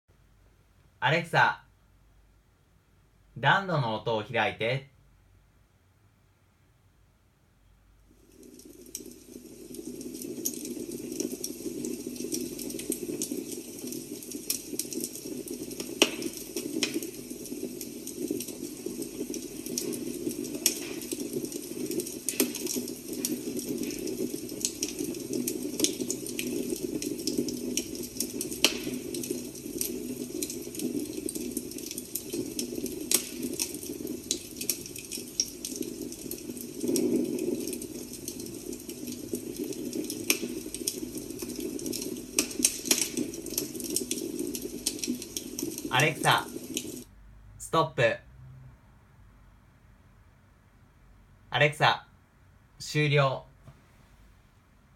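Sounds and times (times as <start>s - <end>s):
fire crackling through a speaker: 0.1s - 5.6s, 7.1s - 54.9s.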